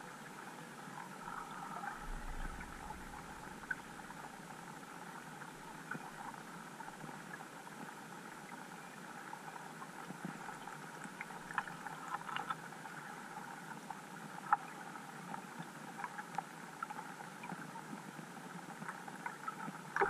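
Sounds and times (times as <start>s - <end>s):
muffled underwater hiss: 0.0s - 20.0s
faint ticks and clicks: 0.9s - 20.0s.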